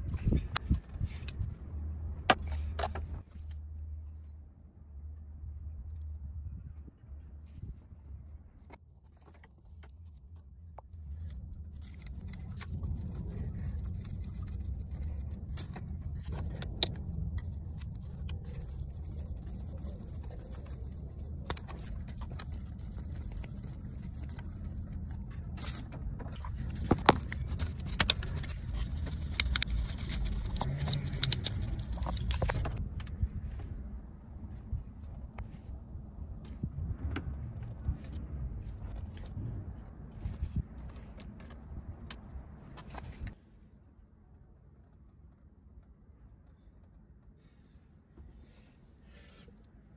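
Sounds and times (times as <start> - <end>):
low steady rumble: 0.0 - 49.9.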